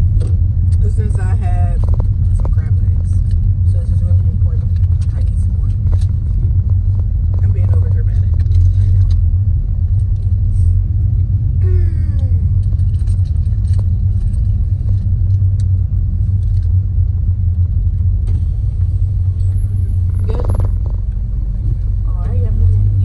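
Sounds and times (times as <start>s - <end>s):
loud low rumble: 0.0s - 23.0s.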